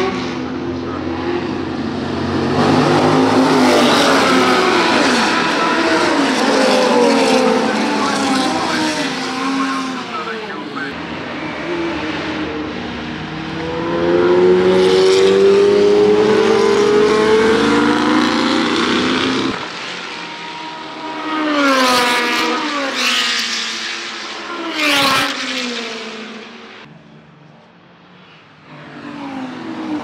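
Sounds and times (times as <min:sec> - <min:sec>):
racing cars passing at speed: 0:00.0 - 0:30.0.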